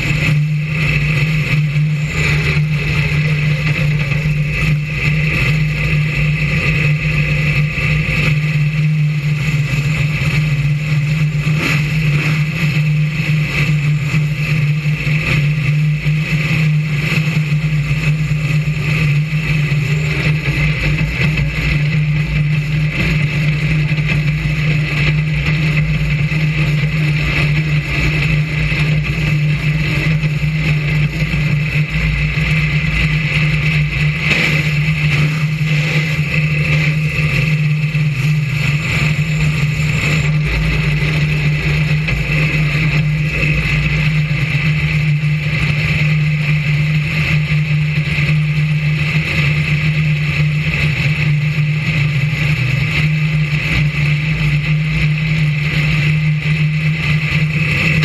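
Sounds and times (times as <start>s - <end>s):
race car engine running steadily: 0.0s - 58.0s.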